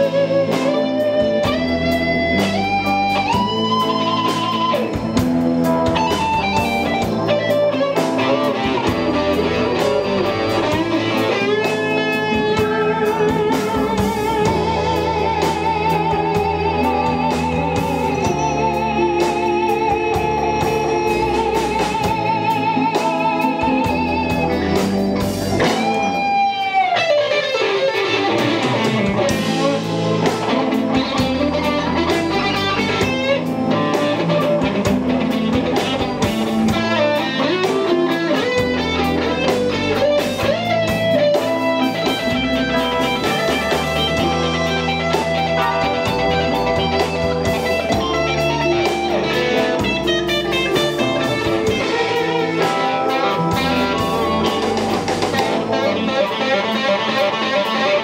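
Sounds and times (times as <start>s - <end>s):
bass guitar: 0.0s - 58.0s
drums: 0.0s - 58.0s
electric guitar solo: 0.0s - 58.0s.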